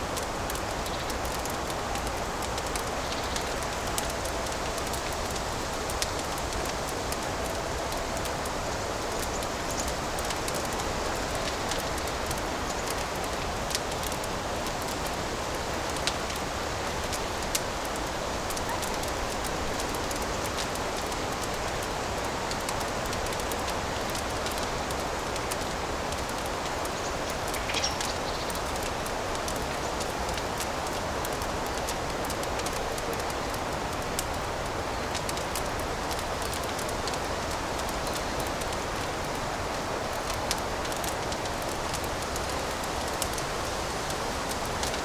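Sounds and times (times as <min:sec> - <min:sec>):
fireplace fire crackling: 0:00.0 - 0:45.0.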